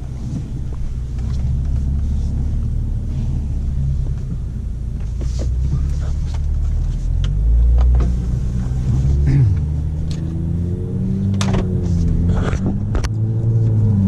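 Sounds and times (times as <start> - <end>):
car engine exhaust drone: 0.0 - 14.0.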